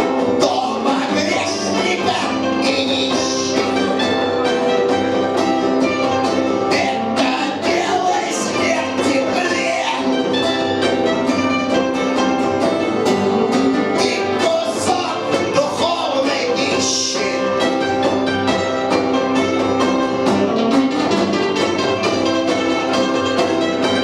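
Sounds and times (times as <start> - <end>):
electric guitar: 0.0 - 24.0.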